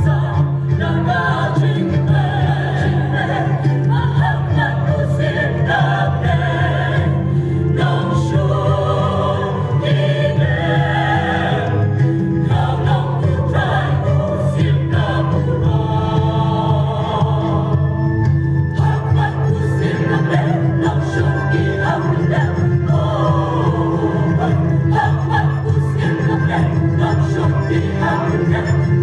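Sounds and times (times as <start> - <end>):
choir singing a hymn: 0.0 - 29.0.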